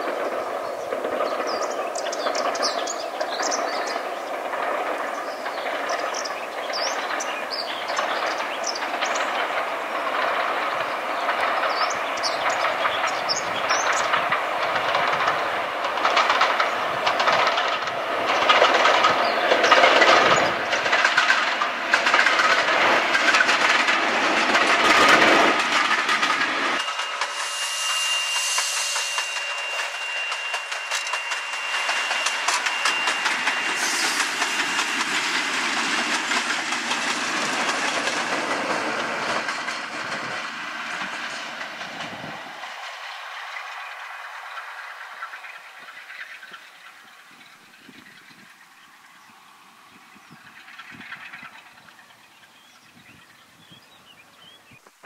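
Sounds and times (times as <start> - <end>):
locomotive high whine: 0.0 - 55.0
train wheels clattering over rail joints: 0.0 - 55.0.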